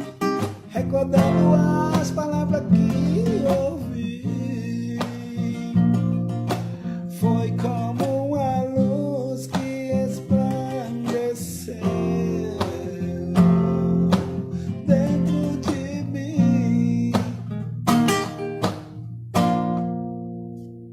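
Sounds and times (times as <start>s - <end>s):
acoustic guitar strumming chords: 0.0s - 20.9s.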